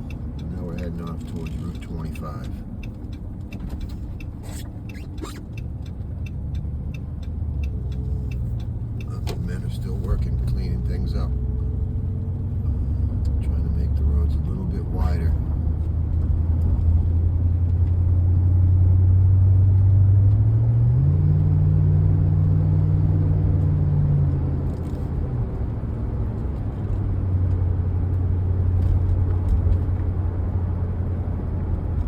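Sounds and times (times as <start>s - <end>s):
vehicle engine and road noise: 0.0s - 32.0s.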